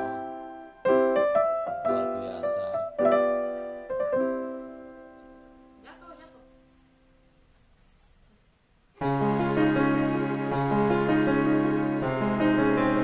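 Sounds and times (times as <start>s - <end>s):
piano chords: 0.0s - 7.4s, 9.0s - 13.0s.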